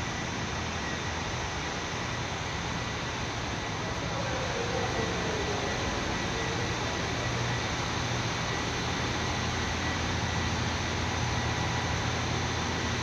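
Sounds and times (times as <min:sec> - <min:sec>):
train hum and hiss: 0:00.0 - 0:13.0.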